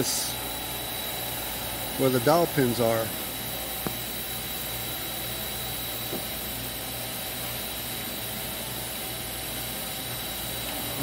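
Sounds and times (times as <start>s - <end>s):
machine shop hum and whine: 0.0s - 11.0s.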